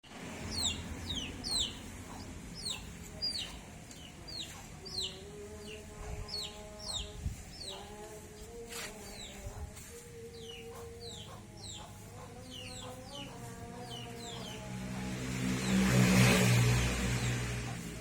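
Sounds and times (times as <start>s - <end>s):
birds chirping: 0.1s - 18.0s.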